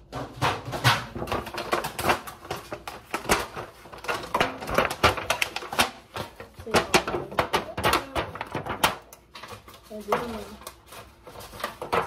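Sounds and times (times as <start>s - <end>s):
aluminium foil pan crinkling: 0.0s - 12.0s.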